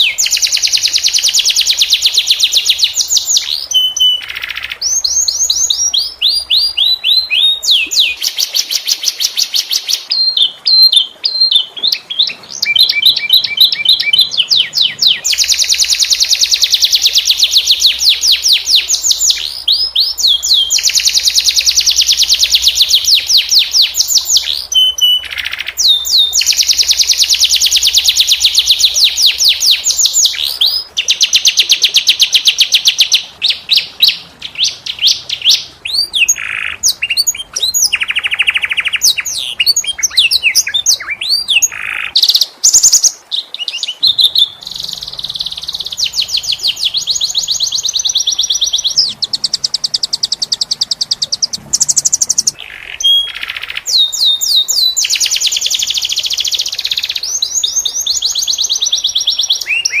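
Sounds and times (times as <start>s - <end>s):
canary singing trills: 0.0s - 60.0s.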